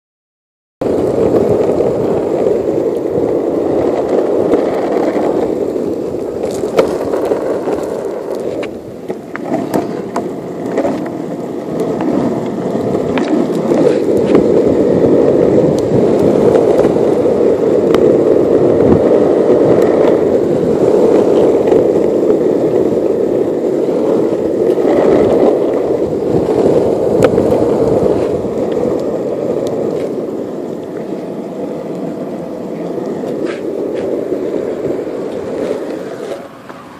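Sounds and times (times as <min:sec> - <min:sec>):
skateboard wheels rolling on asphalt: 0:00.8 - 0:36.9.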